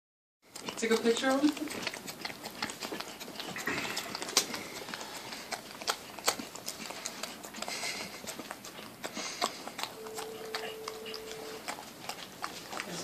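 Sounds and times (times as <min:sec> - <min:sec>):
dog licking and smacking mouth: 0:00.5 - 0:13.0.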